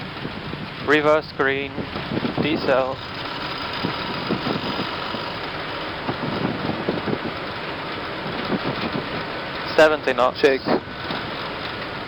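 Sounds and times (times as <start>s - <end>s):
jet engines in reverse thrust: 0.0s - 12.0s
wheels running on runway: 0.0s - 12.0s.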